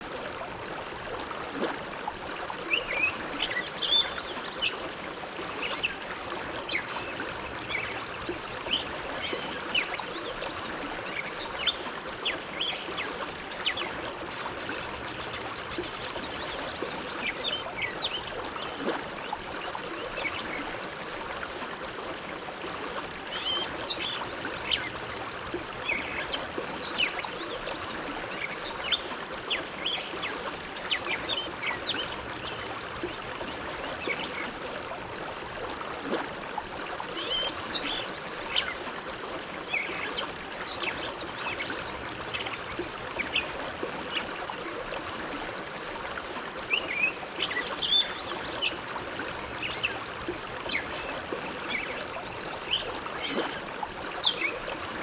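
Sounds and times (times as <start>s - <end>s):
water splashes and gurgles: 0.0s - 55.0s.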